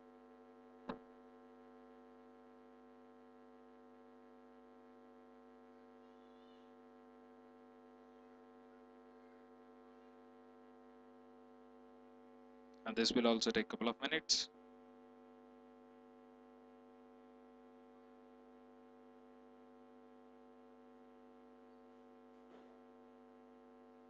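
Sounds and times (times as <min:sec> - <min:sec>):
faint electrical hum: 0:00.3 - 0:24.0.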